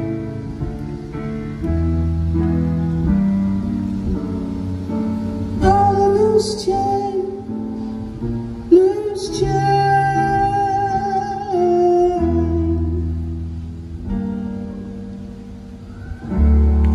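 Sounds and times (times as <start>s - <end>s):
electric guitar: 0.0s - 16.9s.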